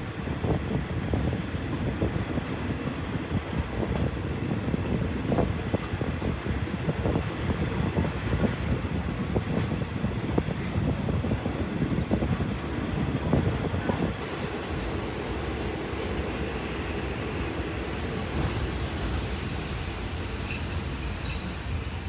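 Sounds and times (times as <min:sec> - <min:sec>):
train wheels rumbling: 0:00.2 - 0:22.0.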